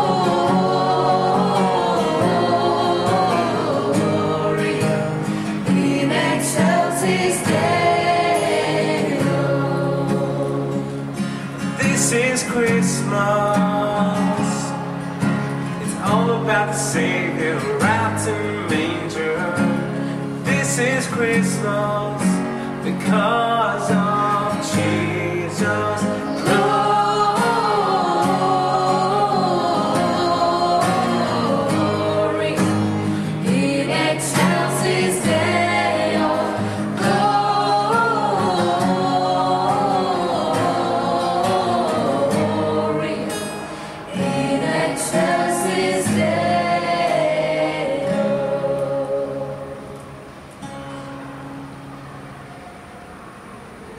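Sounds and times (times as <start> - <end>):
group singing a christmas carol: 0.0 - 50.4
strummed acoustic guitar: 0.0 - 53.5.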